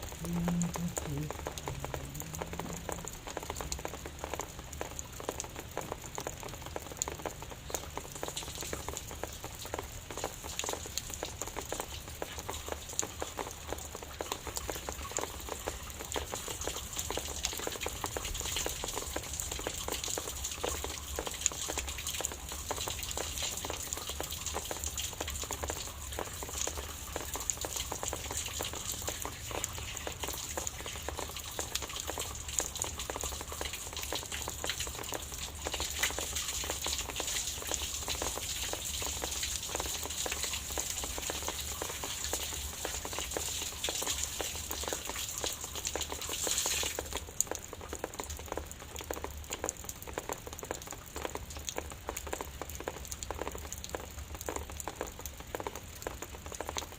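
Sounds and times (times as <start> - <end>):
light drizzle pattering: 0.0 - 56.9.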